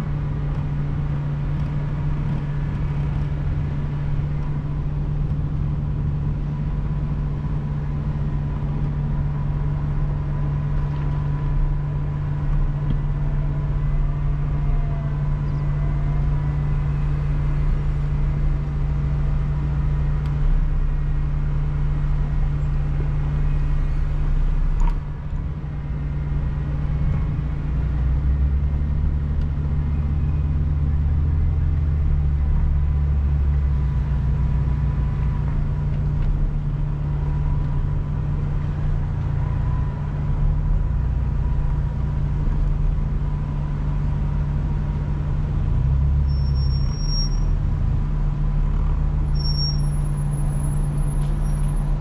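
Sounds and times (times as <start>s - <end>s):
off-road vehicle engine drone: 0.0s - 52.0s.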